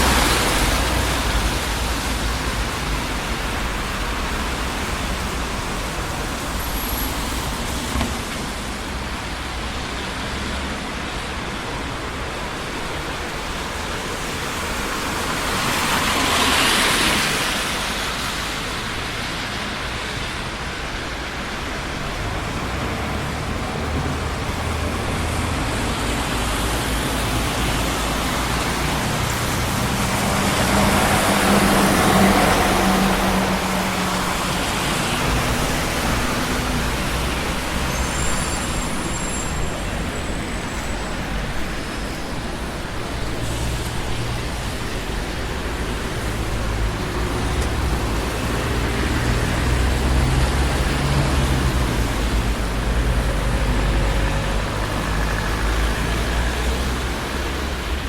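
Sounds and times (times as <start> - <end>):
road traffic: 0.0 - 58.0
vehicles passing close by: 0.0 - 58.0.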